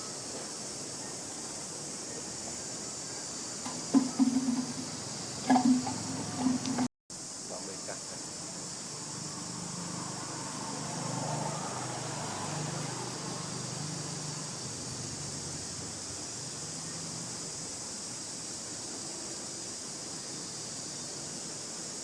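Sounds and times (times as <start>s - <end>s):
high-pitched hiss: 0.0s - 22.0s.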